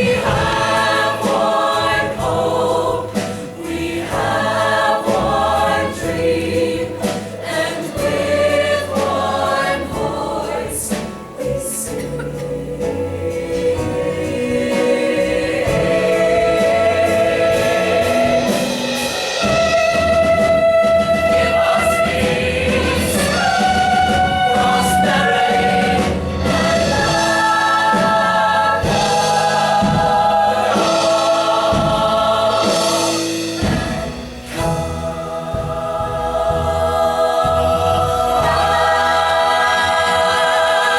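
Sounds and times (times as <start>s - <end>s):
choir singing to music: 0.0s - 40.9s.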